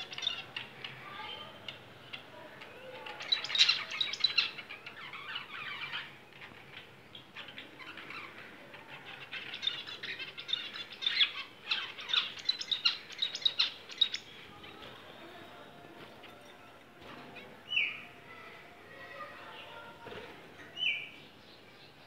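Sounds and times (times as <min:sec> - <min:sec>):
small birds chirping: 0:00.0 - 0:15.6, 0:17.2 - 0:22.0.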